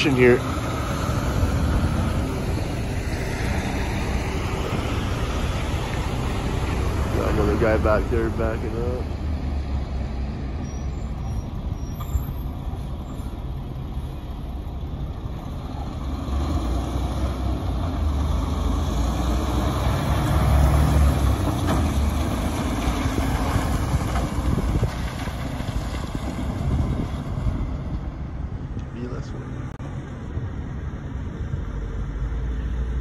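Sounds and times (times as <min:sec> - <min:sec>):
truck diesel engine rumbling: 0:00.0 - 0:33.0.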